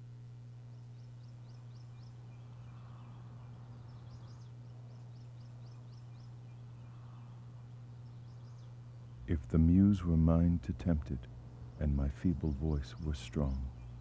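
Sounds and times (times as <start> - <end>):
faint birdsong chirps: 0.0 - 14.0
steady low hum: 0.0 - 14.0.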